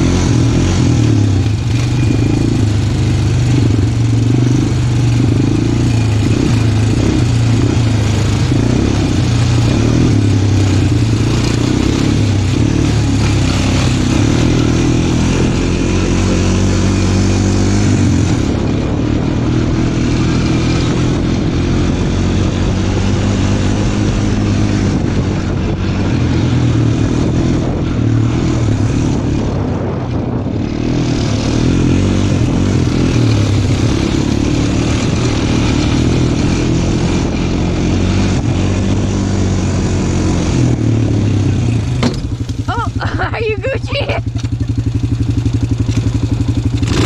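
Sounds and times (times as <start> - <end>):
off-road vehicle engine running: 0.0 - 47.0
rushing wind: 0.0 - 47.0
terrain noise: 0.0 - 47.0.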